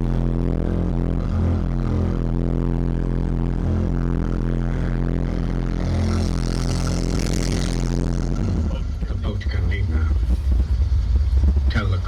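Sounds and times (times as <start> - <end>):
bass-heavy music from subwoofer: 0.0 - 12.0.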